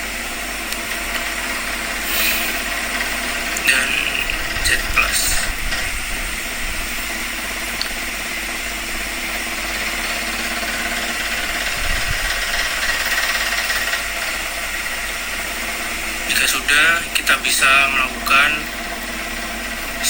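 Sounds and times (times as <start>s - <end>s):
high machine whine: 0.0s - 20.0s
milling machine running: 0.0s - 20.0s.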